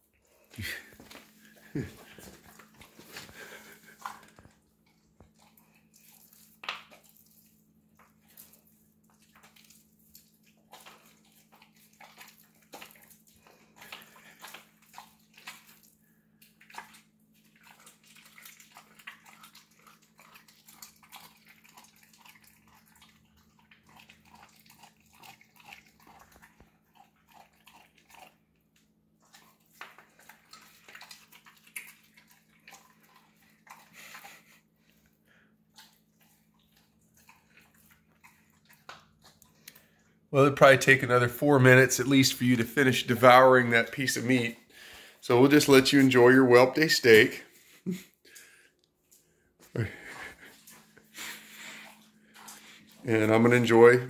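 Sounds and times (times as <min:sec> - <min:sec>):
dog chewing wet meat: 0:00.0 - 0:41.8, 0:47.7 - 0:54.0.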